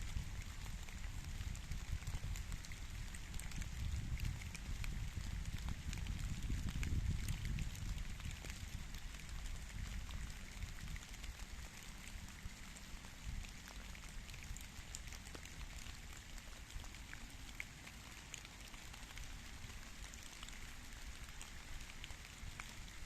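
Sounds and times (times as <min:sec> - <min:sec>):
light rain on leaves: 0:00.0 - 0:23.0.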